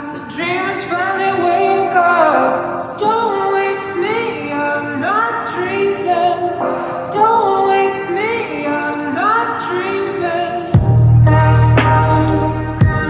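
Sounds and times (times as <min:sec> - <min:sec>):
woman singing slow melody: 0:00.0 - 0:13.0.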